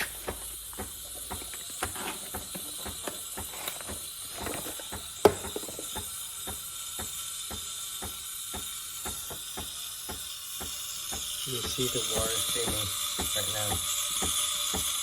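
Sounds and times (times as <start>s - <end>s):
espresso machine clicking: 0.0s - 15.0s
steam wand hissing: 0.0s - 15.0s.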